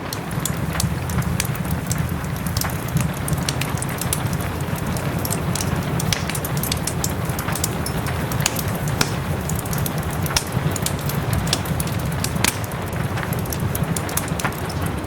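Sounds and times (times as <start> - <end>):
soft rain hiss: 0.0 - 15.0
wood fire crackling: 0.0 - 15.0.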